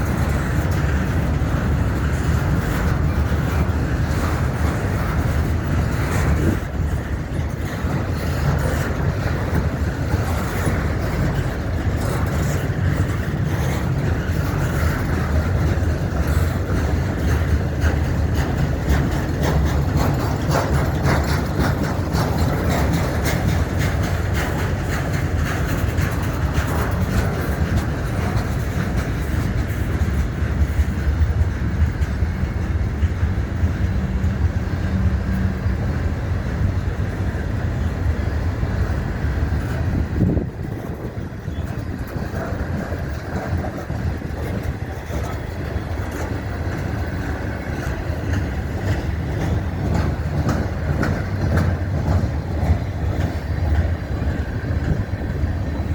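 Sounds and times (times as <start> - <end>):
steel wheels rumbling on rail: 0.0 - 55.9
wheels clicking over rail joints: 0.0 - 55.9.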